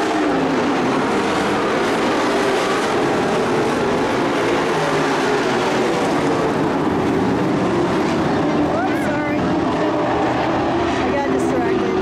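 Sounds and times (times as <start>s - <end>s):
racing truck engines: 0.0s - 12.0s.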